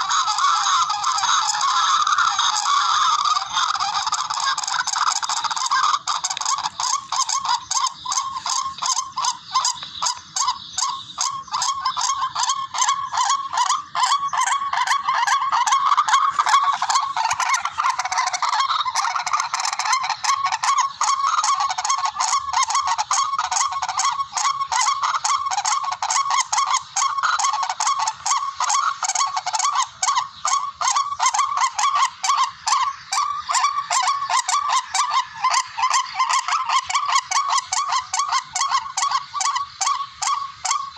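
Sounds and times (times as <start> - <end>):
rail bird calls: 0.0 - 40.9.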